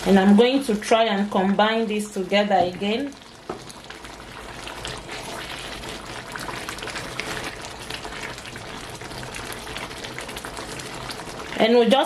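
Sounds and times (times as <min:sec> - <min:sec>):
soup bubbling in a pot: 0:00.0 - 0:12.0.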